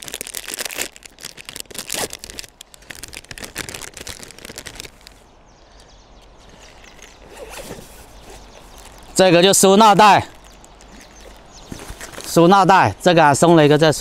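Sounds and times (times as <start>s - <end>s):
packaging crinkling and rustling: 0.0s - 5.3s, 6.3s - 12.5s.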